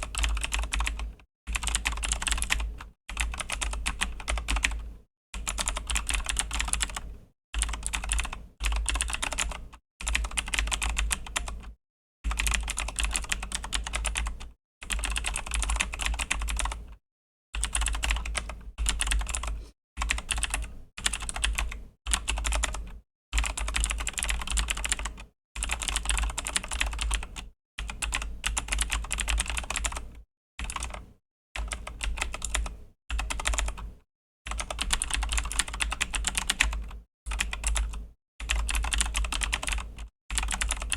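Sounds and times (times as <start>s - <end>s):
mechanical keyboard typing: 0.0s - 4.8s, 5.4s - 11.7s, 12.3s - 17.0s, 17.6s - 33.9s, 34.5s - 40.9s.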